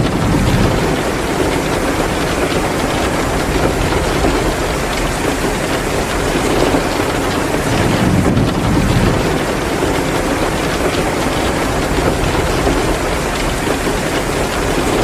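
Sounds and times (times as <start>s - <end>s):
heavy rain pouring: 0.0s - 15.0s
wood fire crackling: 0.0s - 15.0s.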